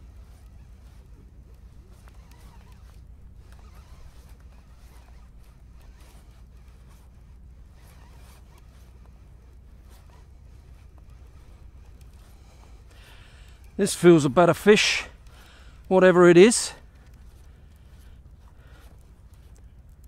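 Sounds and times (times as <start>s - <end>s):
fishing reel whirring: 0.0s - 20.0s.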